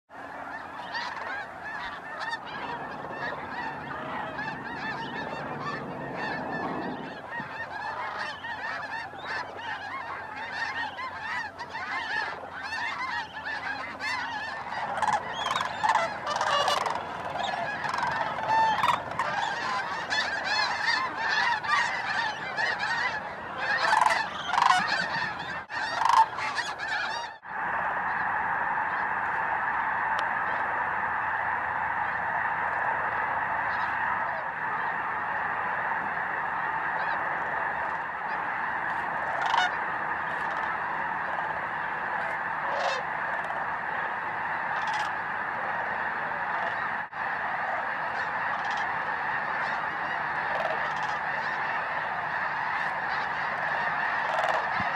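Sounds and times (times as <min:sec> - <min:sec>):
flock of geese honking: 0:00.1 - 0:54.9.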